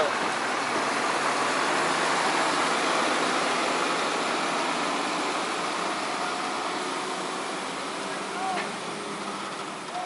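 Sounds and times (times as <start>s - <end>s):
truck diesel engine passing: 0.0s - 10.0s.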